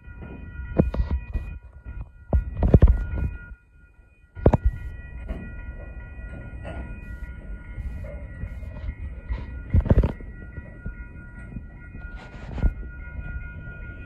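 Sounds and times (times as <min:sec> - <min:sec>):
crossing bell ringing: 0:00.0 - 0:14.0
train wheels rumbling on rail: 0:00.0 - 0:14.0
wheels clanking on crossing rails: 0:00.0 - 0:14.0.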